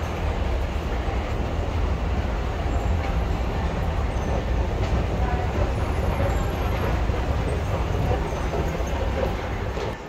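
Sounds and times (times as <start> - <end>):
metro station rumble: 0.0 - 10.0.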